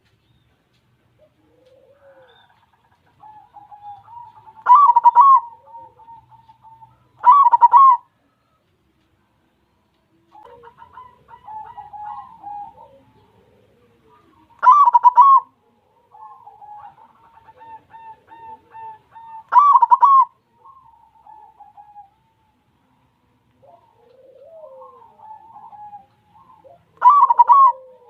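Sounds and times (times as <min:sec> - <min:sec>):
dove cooing: 0:01.0 - 0:08.6, 0:10.1 - 0:28.0
dove trilled phrases: 0:01.2 - 0:08.4, 0:10.2 - 0:28.0.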